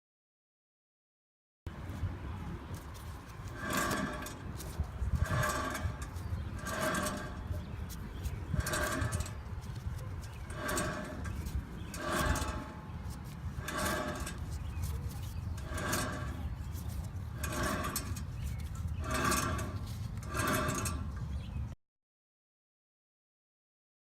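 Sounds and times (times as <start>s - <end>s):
wheel bearing noise: 1.7s - 21.7s
steady low rumble: 1.7s - 21.8s.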